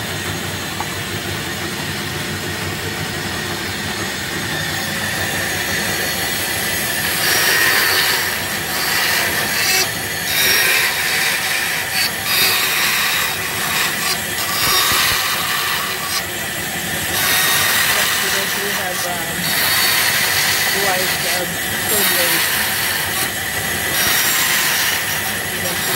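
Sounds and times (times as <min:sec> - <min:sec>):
bandsaw cutting wood: 0:02.5 - 0:25.9.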